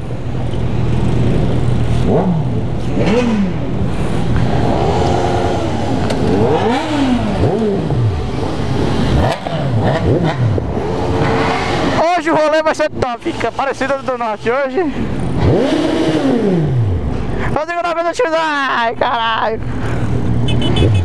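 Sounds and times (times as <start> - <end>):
motorcycle engines revving: 0.0 - 21.0.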